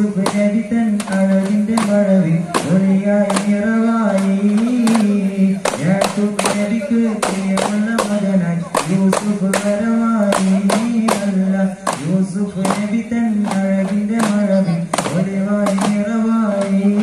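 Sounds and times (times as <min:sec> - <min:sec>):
sharp percussive strikes: 0:00.0 - 0:17.0
voices singing in unison: 0:00.0 - 0:17.0.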